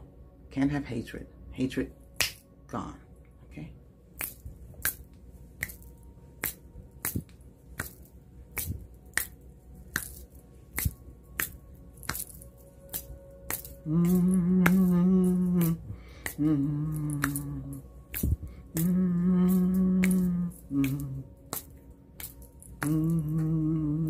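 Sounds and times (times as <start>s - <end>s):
faint background music: 0.0s - 24.0s
fingers snapping: 2.2s - 2.4s, 4.2s - 24.0s.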